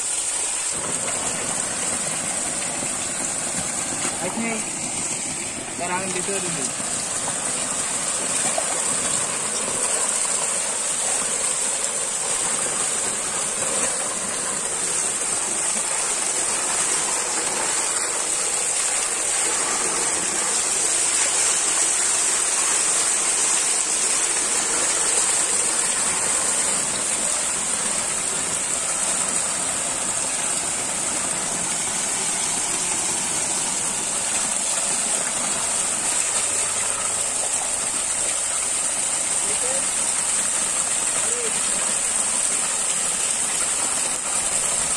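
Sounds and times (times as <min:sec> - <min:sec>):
water pouring from culvert: 0:00.0 - 0:44.9.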